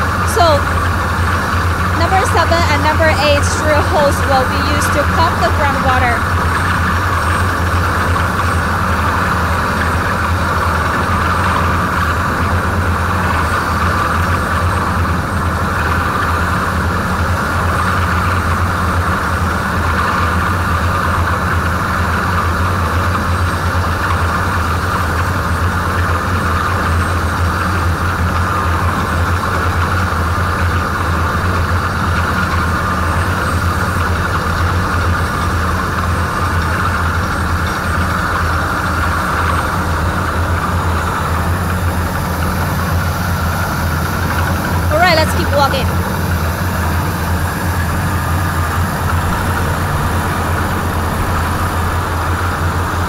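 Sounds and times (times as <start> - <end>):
drilling rig engine drone: 0.0 - 53.0.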